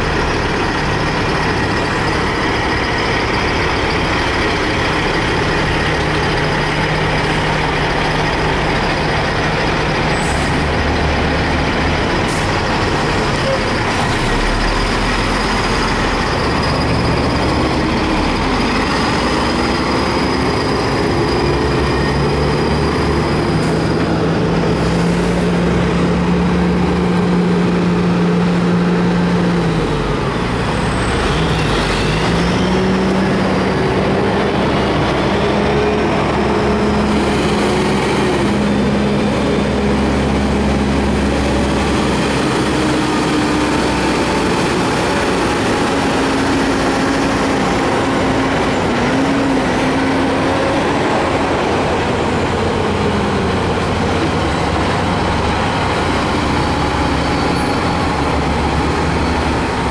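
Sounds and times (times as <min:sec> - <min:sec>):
heavy diesel trucks rolling past: 0:00.0 - 0:59.9.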